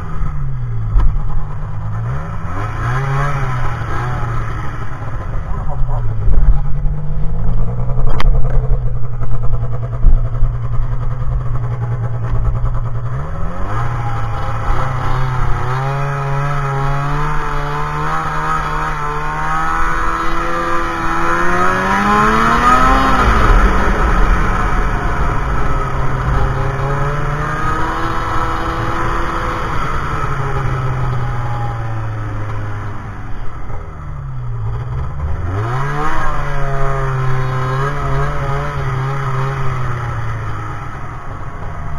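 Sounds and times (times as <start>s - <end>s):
snowmobile engine running: 0.0s - 41.9s.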